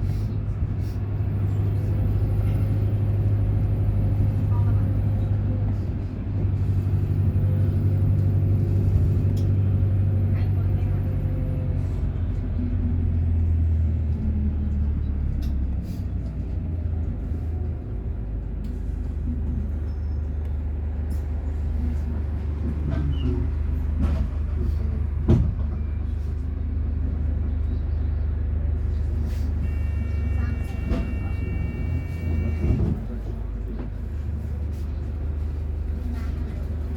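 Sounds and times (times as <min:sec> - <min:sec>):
heavy vehicle engine rumbling: 0:00.0 - 0:36.9.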